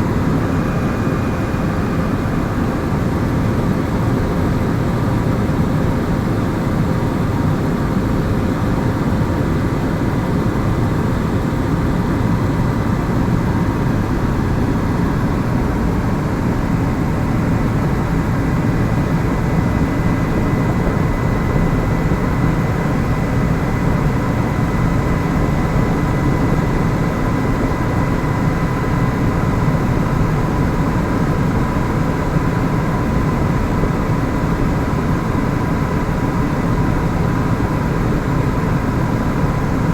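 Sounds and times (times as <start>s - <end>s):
faint steady whine: 0.0s - 39.9s
helicopter rotor and engine drone: 0.0s - 39.9s.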